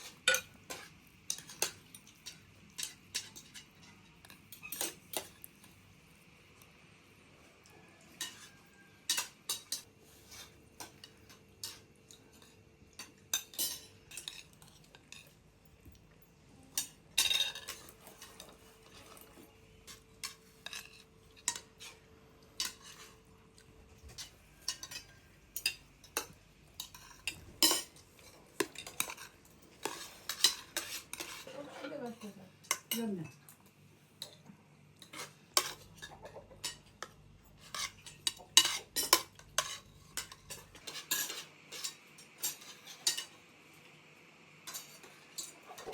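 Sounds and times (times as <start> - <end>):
utensils clinking on dishes: 0.0 - 5.8, 7.7 - 43.5, 44.6 - 45.9.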